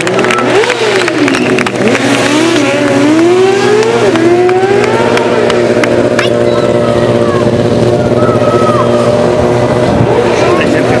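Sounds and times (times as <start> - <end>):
motorcycle engine idling: 0.0 - 11.0
motorcycle engine revving: 0.0 - 11.0.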